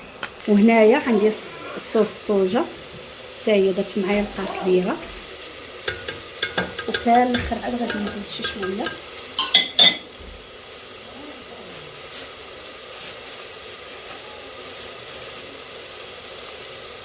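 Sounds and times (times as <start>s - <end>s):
seafood sizzling in a pot: 0.0s - 17.0s.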